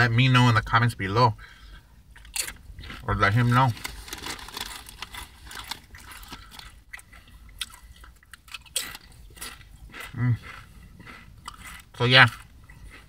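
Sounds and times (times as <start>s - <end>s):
tortilla chips crunched and chewed: 2.2s - 13.0s.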